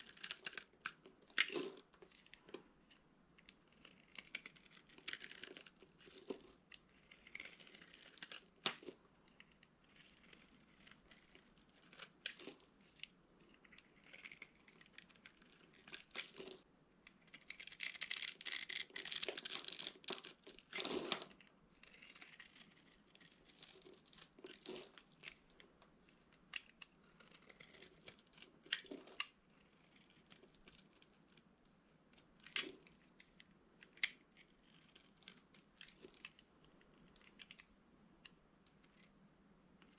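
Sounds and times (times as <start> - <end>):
dry soap crunching: 0.0 - 16.6, 17.2 - 37.7.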